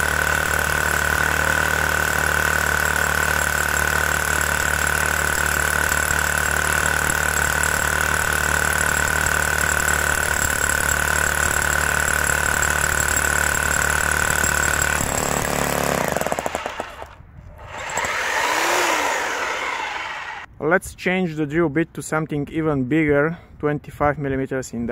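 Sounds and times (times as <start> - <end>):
hammer drill into stone: 0.0 - 20.5.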